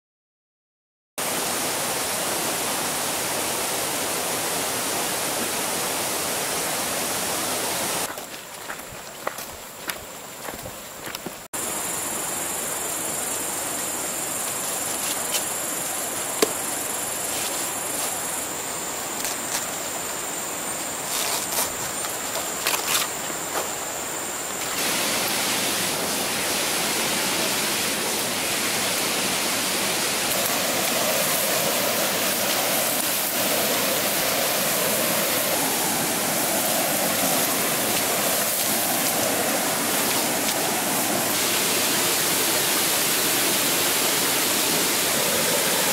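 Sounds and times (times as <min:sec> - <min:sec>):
small waterfall rushing: 0:01.2 - 0:45.9
high insect drone: 0:08.0 - 0:45.9.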